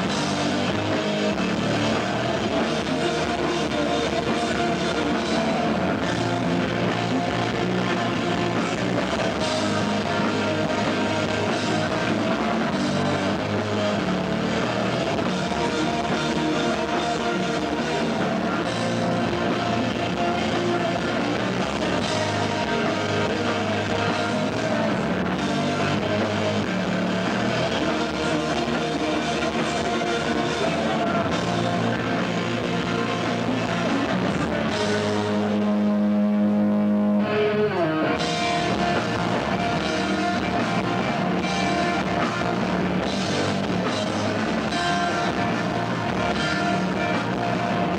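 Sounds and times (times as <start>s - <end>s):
live rock band: 0.0s - 47.9s
person singing: 0.0s - 47.9s.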